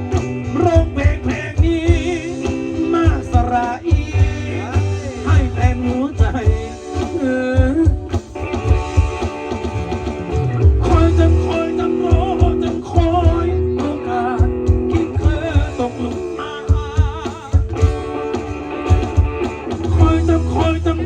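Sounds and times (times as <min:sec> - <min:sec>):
guitar lead with bends: 0:00.0 - 0:21.0
rock band backing: 0:00.0 - 0:21.0.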